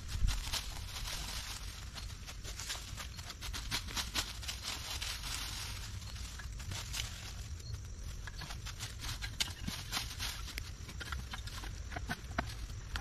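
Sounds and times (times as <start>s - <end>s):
dry leaves crunching underfoot: 0.0s - 13.0s.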